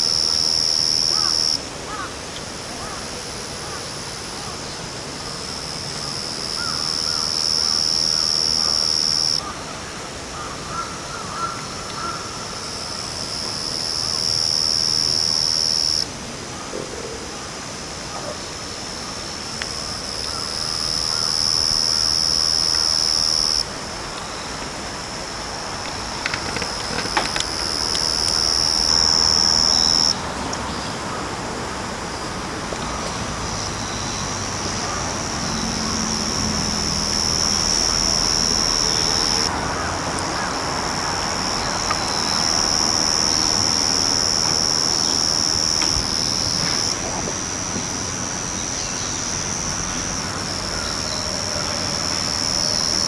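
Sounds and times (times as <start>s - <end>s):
cricket trilling: 0.0s - 9.6s, 10.3s - 16.1s, 17.0s - 53.0s.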